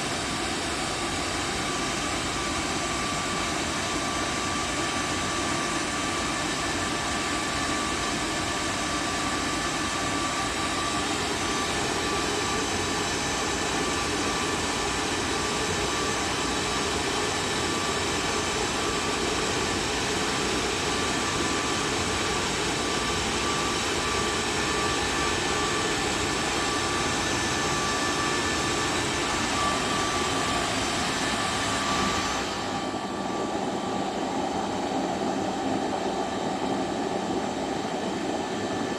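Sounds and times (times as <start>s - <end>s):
air blowers rushing and whining: 0.0s - 38.9s.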